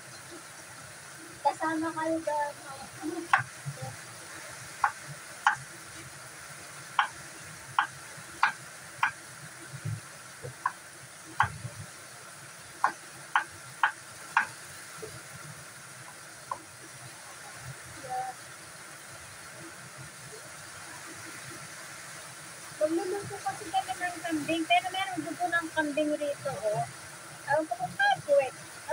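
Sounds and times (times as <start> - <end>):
steady hiss: 0.0 - 28.9.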